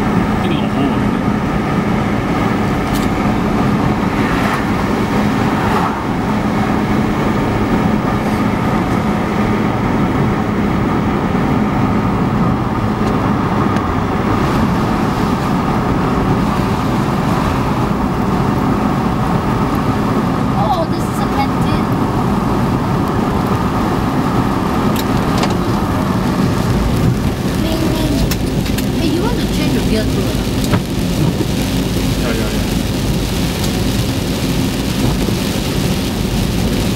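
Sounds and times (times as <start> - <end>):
car cabin road and engine drone: 0.0 - 36.9.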